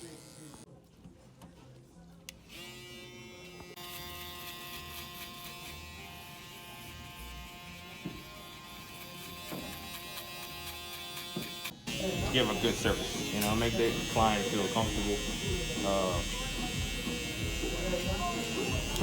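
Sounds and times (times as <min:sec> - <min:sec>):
electric hair clippers buzzing: 0:00.0 - 0:00.6, 0:02.5 - 0:19.0.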